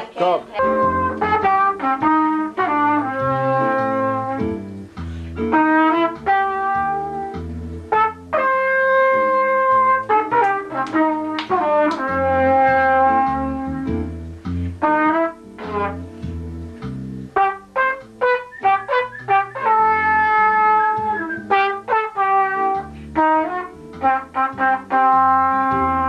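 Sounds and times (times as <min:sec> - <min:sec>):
low musical accompaniment: 0:00.0 - 0:26.0
trumpet melody: 0:00.6 - 0:26.0.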